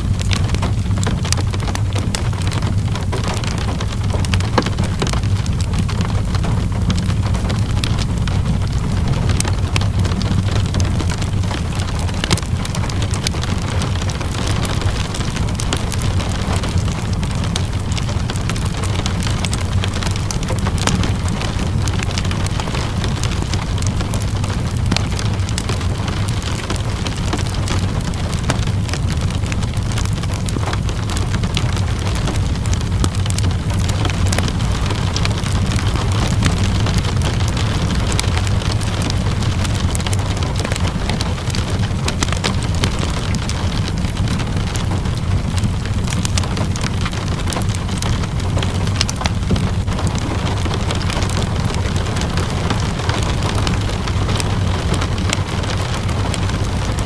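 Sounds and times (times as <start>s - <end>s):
low rumble: 0.0s - 57.0s
steady rain: 0.0s - 57.0s
wood fire crackling: 0.0s - 57.0s.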